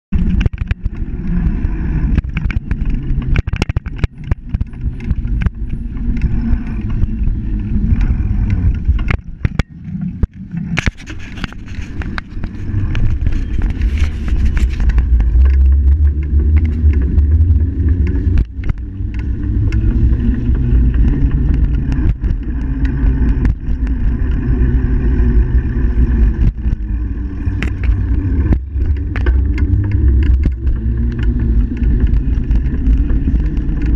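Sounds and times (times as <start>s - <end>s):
bicycle knocking and rattling: 0.1s - 33.9s
low rumble of wind and road: 0.1s - 33.9s.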